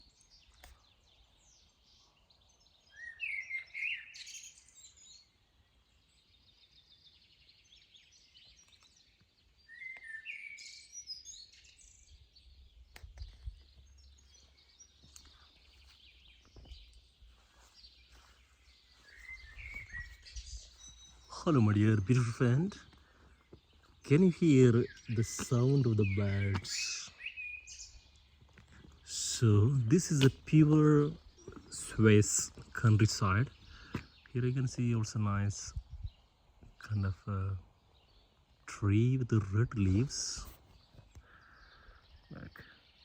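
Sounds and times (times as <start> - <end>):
small birds singing and chirping: 0.0 - 43.0.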